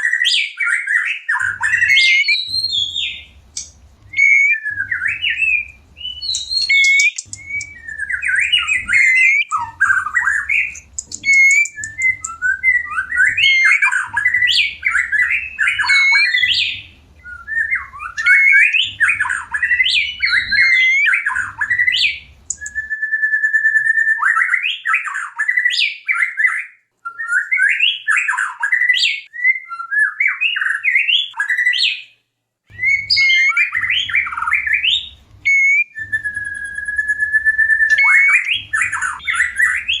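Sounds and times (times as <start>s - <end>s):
bird singing whistled phrases: 0.0s - 32.1s, 32.7s - 40.0s.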